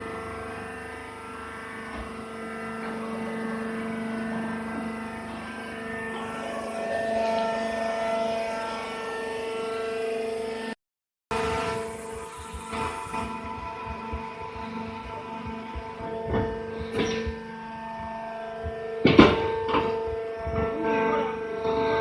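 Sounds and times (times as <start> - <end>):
baler machine droning: 0.0 - 22.0.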